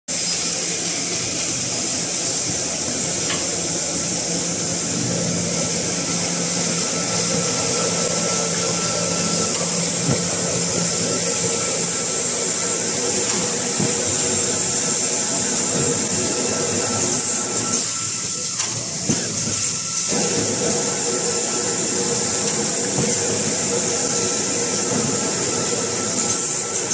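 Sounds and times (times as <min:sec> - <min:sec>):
machine drone: 0:00.1 - 0:26.9.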